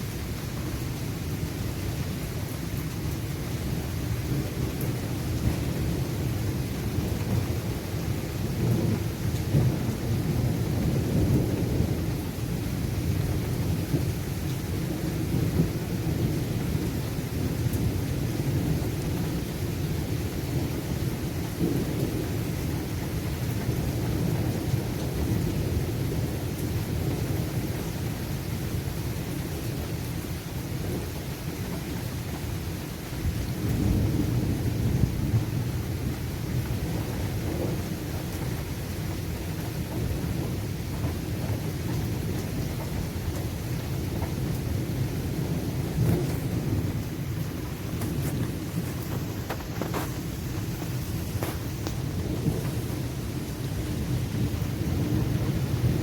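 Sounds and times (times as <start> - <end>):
light rain falling: 0.0 - 56.0
thunderstorm low roar: 1.8 - 56.0.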